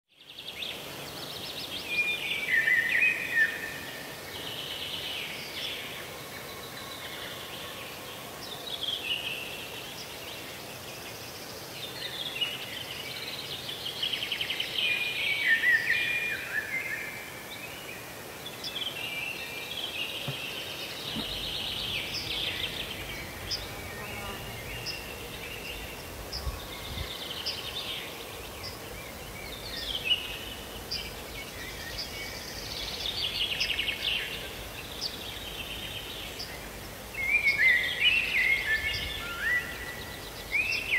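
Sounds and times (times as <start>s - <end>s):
songbirds singing trills: 0.1s - 40.9s.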